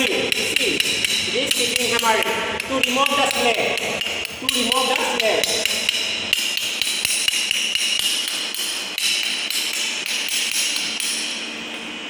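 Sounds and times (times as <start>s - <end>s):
chipping hammer tapping on metal: 0.0s - 11.3s.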